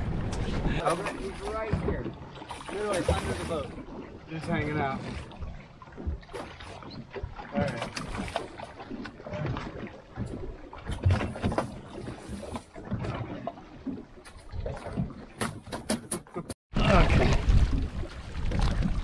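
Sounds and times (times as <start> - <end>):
water slapping boat hull: 0.0 - 19.0.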